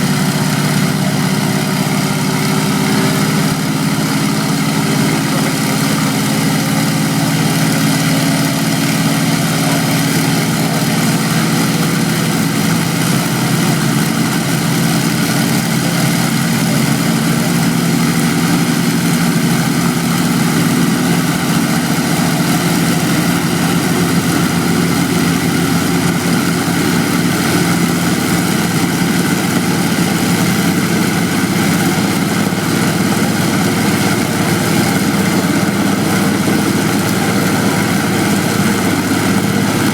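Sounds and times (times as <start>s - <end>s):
aircraft piston engine running: 0.0s - 39.9s.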